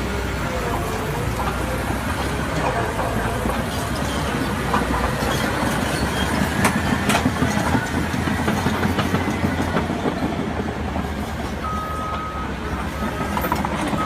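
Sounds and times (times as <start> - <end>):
heavy vehicle rattling rumble: 0.0 - 14.0.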